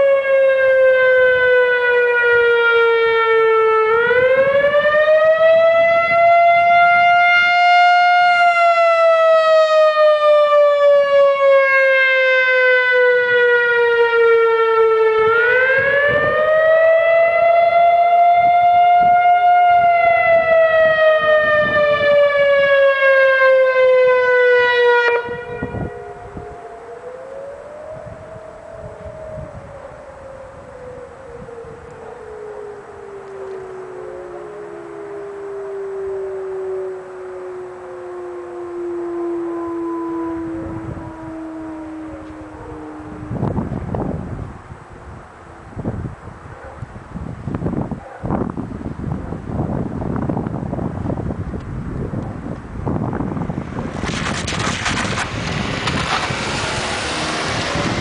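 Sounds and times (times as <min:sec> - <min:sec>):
faint siren wail: 0:00.0 - 0:58.0
warning siren wailing: 0:00.0 - 0:58.0.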